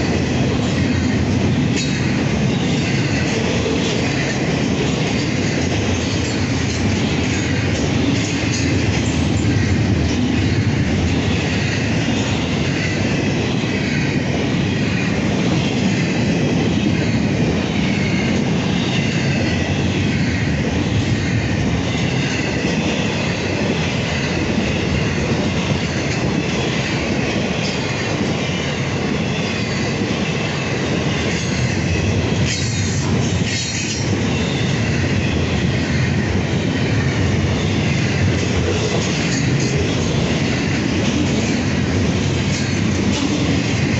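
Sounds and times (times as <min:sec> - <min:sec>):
train wheels rumbling on track: 0:00.0 - 0:43.9.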